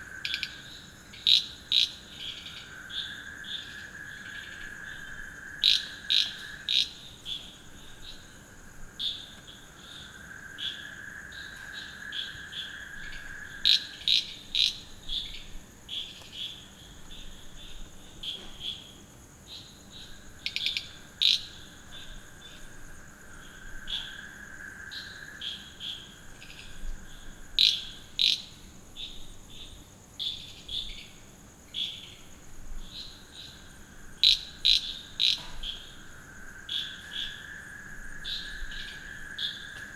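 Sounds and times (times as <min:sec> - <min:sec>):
short sharp frog calls: 0:00.0 - 0:08.3, 0:08.9 - 0:19.0, 0:19.9 - 0:31.1, 0:32.8 - 0:39.9
high insect trill: 0:00.0 - 0:39.9.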